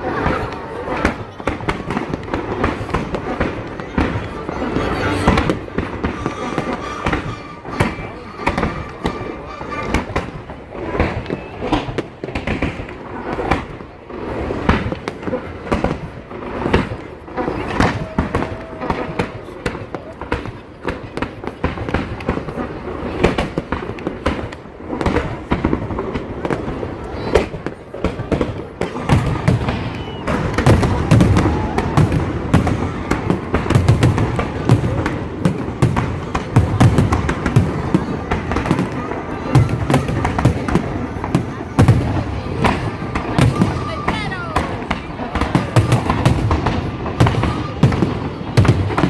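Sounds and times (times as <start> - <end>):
deep firework booms: 0.0 - 49.0
fireworks bursting and crackling: 0.0 - 49.0.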